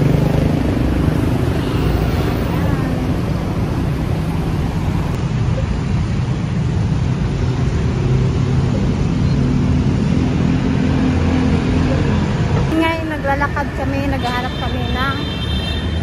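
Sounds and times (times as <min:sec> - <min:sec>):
cars and motorbikes passing: 0:00.0 - 0:16.0
city street traffic: 0:00.0 - 0:16.0.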